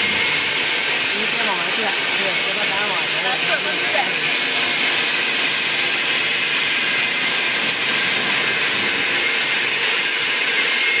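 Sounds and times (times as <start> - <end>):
loud hissing machine noise: 0.0 - 11.0.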